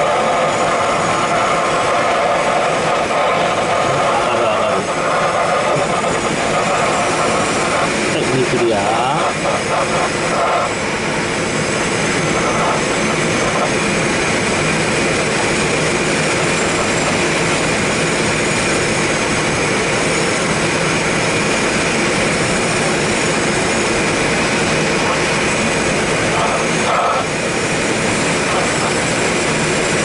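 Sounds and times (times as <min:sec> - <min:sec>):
airflow rushing around canopy: 0:00.0 - 0:30.0.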